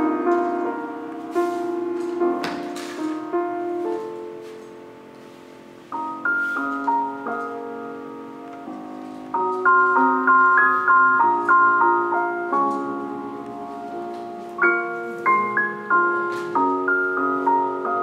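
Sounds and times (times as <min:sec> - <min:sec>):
slow piano keyboard music: 0:00.0 - 0:18.0.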